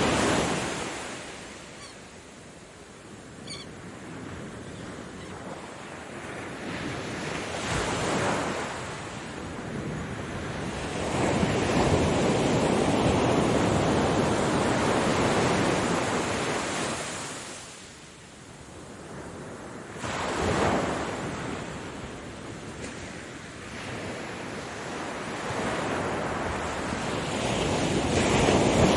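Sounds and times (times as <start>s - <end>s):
ocean waves breaking ashore: 0.0s - 18.0s, 18.6s - 28.9s.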